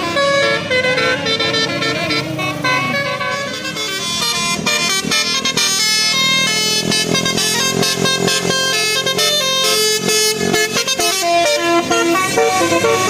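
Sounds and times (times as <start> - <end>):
bus musical horn melody: 0.0 - 13.0.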